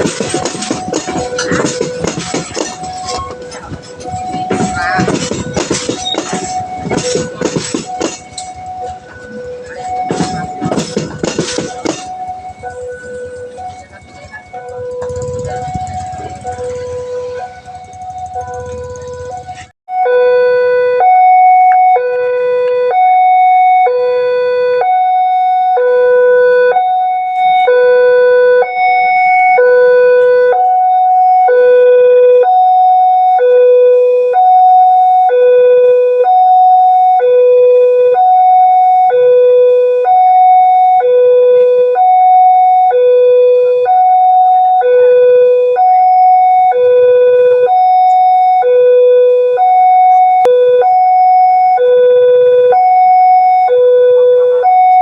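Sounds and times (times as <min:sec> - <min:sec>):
two-tone electronic alarm: 0:00.0 - 0:55.0.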